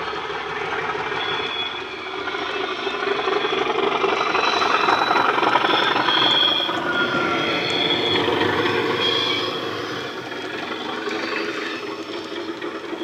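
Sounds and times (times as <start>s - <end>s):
high whistle: 0.0s - 11.9s
diesel locomotive engine: 0.0s - 13.0s
wheels rumbling on track: 0.0s - 13.0s.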